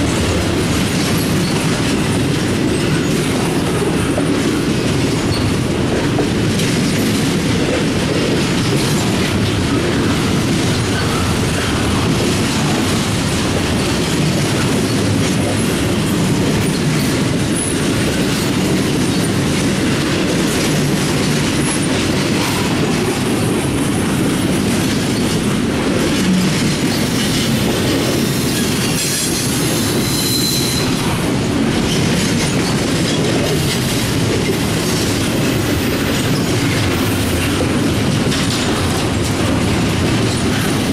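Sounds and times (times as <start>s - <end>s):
freight train wheels rumbling on rails: 0.0s - 40.9s.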